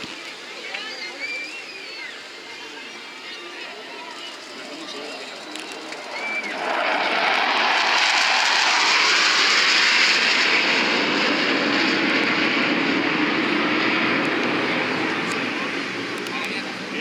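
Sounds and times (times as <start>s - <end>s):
jet engines flying past: 1.7s - 17.0s.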